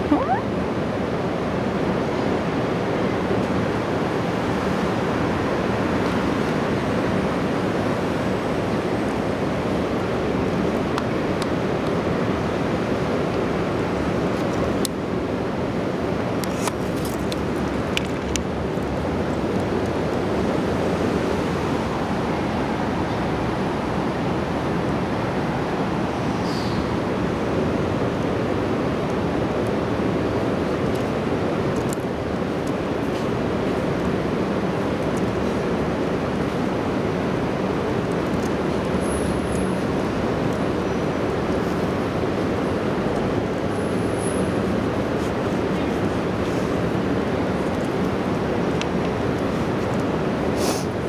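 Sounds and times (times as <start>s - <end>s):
rushing background noise: 0.0s - 51.0s.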